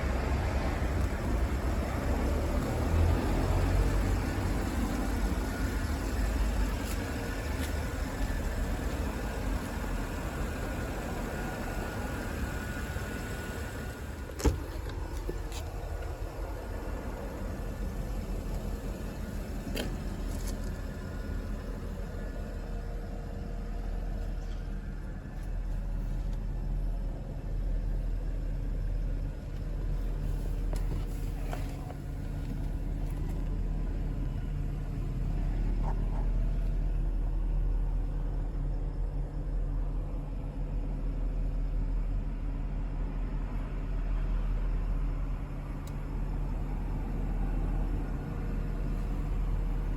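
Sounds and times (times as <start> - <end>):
car engine low rumble: 0.0 - 49.9.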